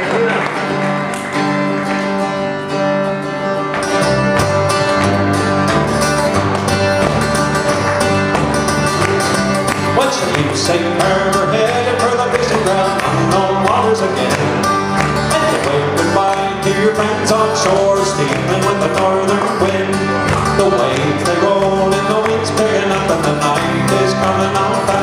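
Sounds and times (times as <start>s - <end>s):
folk band playing instrumental: 0.0s - 25.0s.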